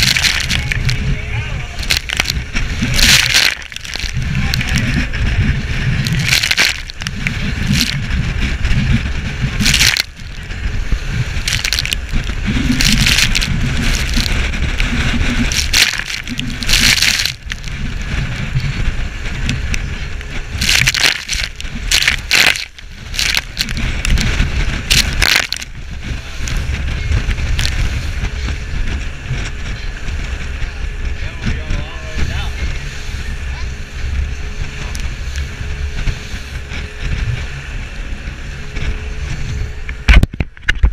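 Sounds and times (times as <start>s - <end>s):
boat motor rumbling: 0.0s - 40.9s
hull slapping waves: 0.0s - 40.9s
wind buffeting microphone: 0.0s - 40.9s.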